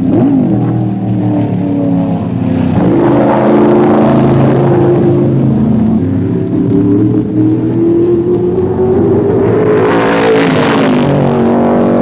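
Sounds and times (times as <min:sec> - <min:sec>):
car passing close: 0:00.0 - 0:12.0
racing car engines: 0:00.0 - 0:12.0.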